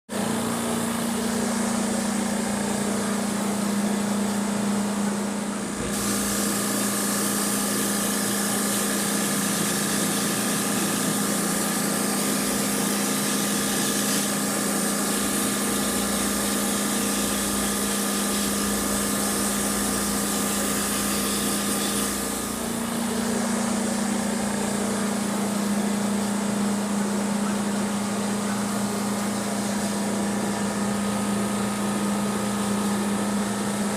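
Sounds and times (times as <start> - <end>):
pressure washer motor hum: 0.1 - 33.9.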